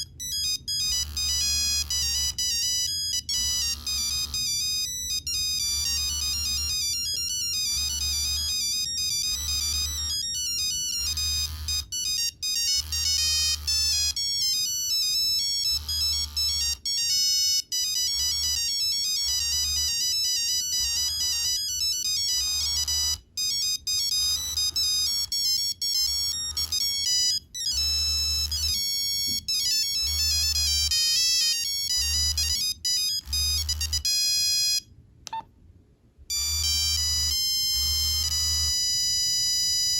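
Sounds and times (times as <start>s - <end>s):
monophonic phone ringtone: 0.0s - 35.4s, 36.3s - 39.9s.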